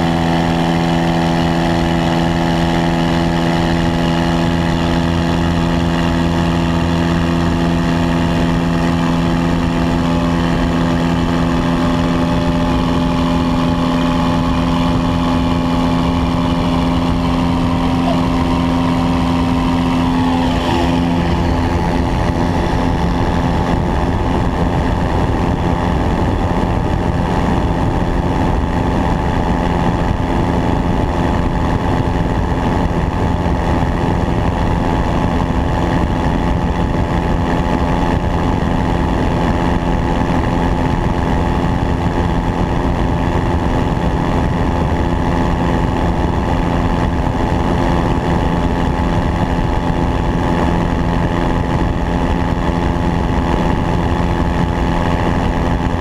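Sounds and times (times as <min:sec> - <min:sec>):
light aircraft engine droning: 0:00.0 - 0:56.0
rushing air noise: 0:02.9 - 0:56.0.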